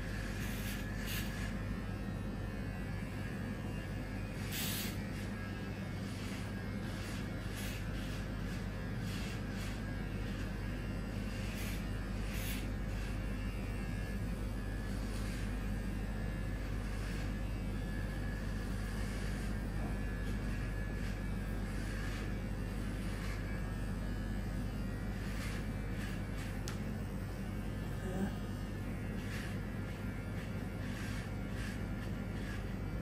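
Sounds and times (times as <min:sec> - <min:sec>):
electric hair clipper humming: 0:00.0 - 0:33.0.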